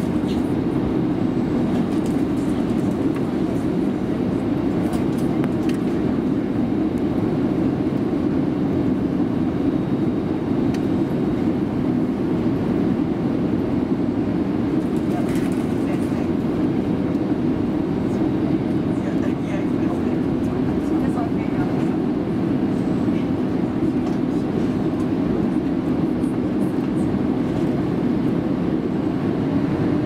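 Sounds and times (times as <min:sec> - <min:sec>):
airplane cabin engine noise: 0:00.0 - 0:30.0.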